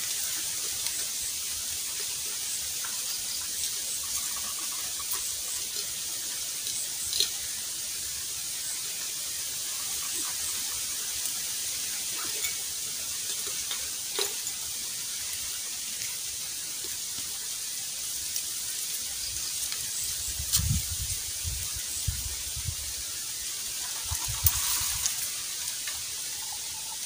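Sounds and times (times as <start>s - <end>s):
high-pitched outdoor hiss: 0.0s - 27.0s.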